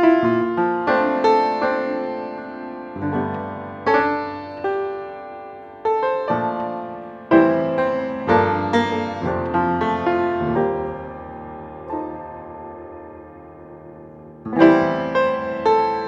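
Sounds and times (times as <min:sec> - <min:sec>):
piano notes and chords: 0:00.0 - 0:16.0.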